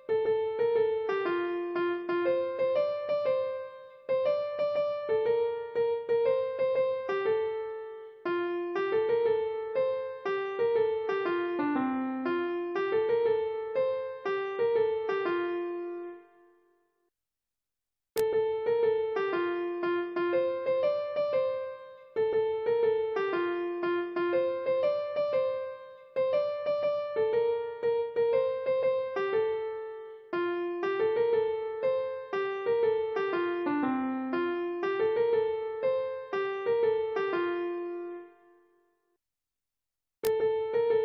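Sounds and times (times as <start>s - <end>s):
slow piano melody: 0.0s - 16.9s, 18.2s - 39.0s, 40.2s - 41.0s.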